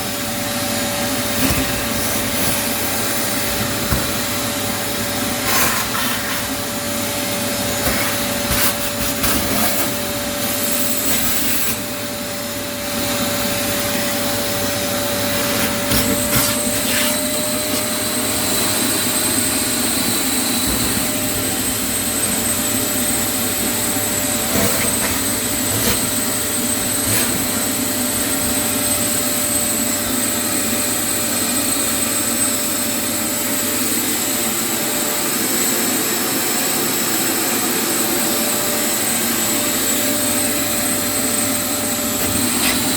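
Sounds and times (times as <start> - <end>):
cleaning machine whining: 0.0 - 42.9.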